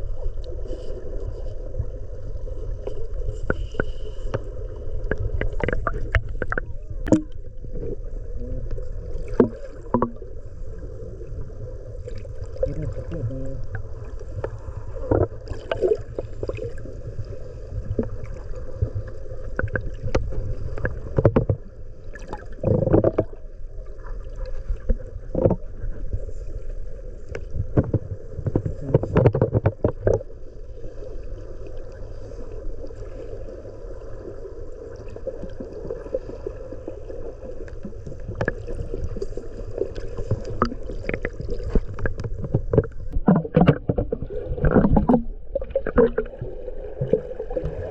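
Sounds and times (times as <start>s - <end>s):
water splashing against hull: 0.0s - 47.9s.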